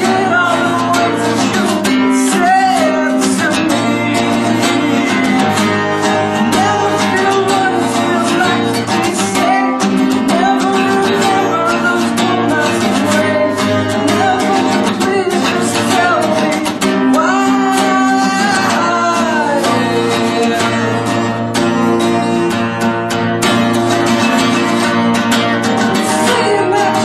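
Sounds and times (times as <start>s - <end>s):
man singing: 0.0s - 22.8s, 24.2s - 27.0s
strummed acoustic guitar: 0.0s - 27.0s.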